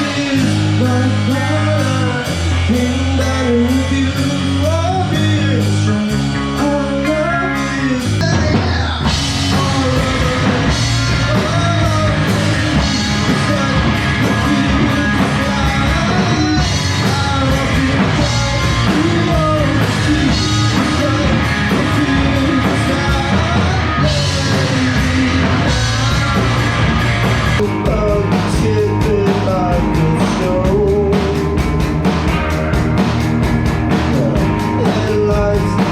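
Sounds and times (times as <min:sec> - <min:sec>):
person singing: 0:00.0 - 0:26.8, 0:27.6 - 0:32.1, 0:34.0 - 0:35.9
rock band playing: 0:00.0 - 0:35.9.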